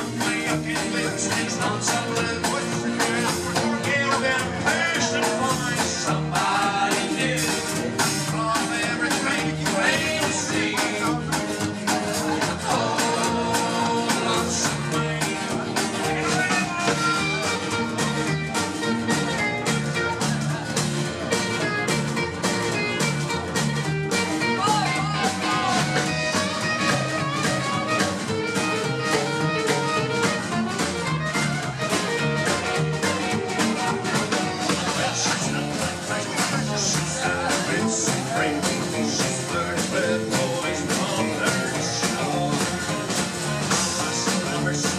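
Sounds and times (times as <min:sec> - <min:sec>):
live band playing: 0:00.0 - 0:44.9.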